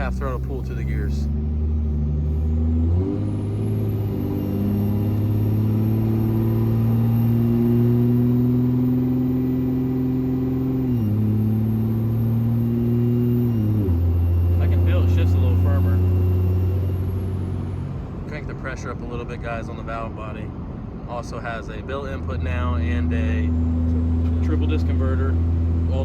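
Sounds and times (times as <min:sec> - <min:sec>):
diesel engine accelerating: 0:00.0 - 0:26.0.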